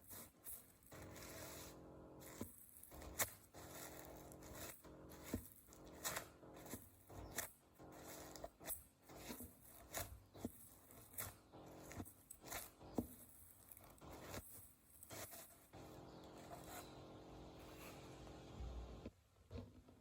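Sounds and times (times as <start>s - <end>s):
paper towels crinkling: 0.0s - 17.0s.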